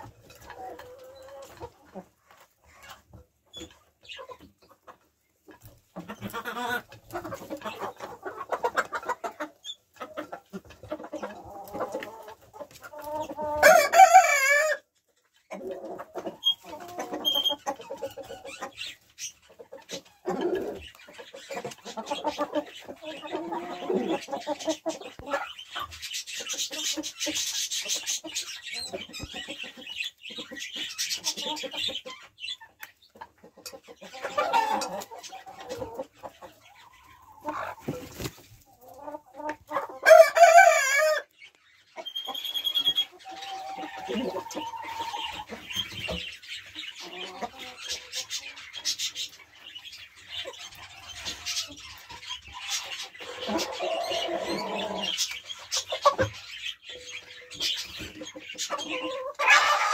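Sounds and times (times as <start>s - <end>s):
hens clucking: 0.0s - 59.9s.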